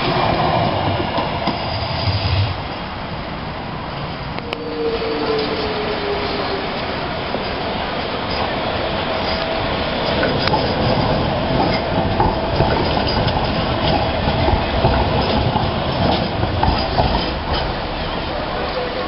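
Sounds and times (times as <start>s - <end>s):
tram wheels rumbling on rail: 0.0s - 19.0s.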